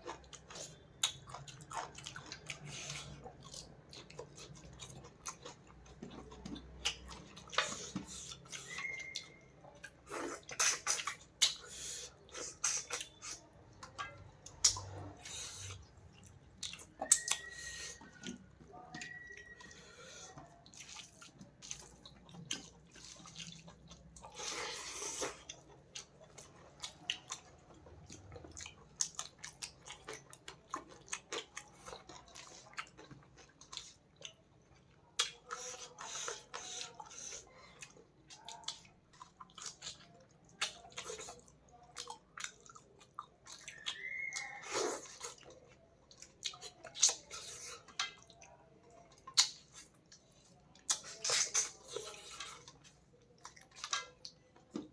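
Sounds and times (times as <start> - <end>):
person chewing with mouth clicks: 0.0 - 54.9.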